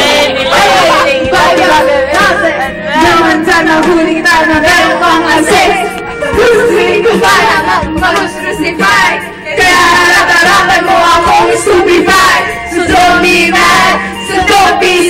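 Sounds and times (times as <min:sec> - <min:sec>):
backing track music: 0:00.0 - 0:15.0
voices singing along: 0:00.0 - 0:15.0
woman singing into microphone: 0:00.0 - 0:15.0.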